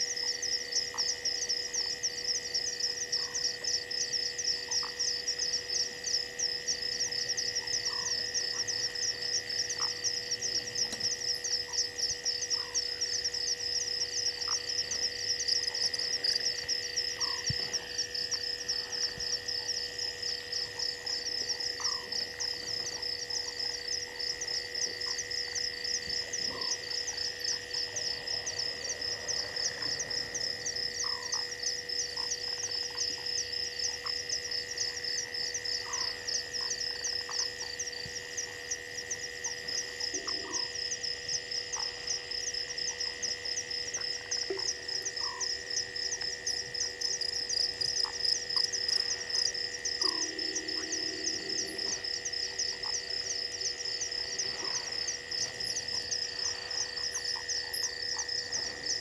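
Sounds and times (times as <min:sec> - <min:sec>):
insects droning: 0:00.0 - 0:59.0
short low frog calls: 0:04.4 - 0:41.0, 0:41.6 - 0:59.0.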